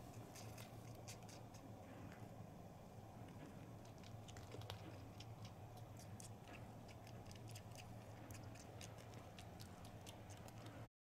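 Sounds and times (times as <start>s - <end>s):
kitten suckling wet clicks: 0.0s - 1.8s, 3.3s - 10.9s
steady low hum: 0.0s - 10.9s.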